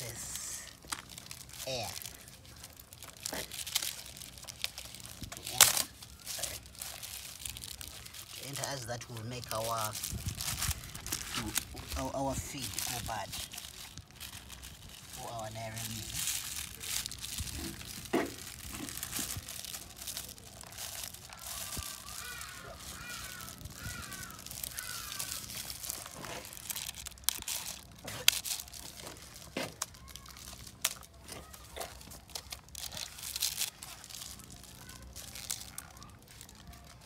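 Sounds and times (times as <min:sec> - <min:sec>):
plastic sheet crinkling: 0:00.0 - 0:37.0.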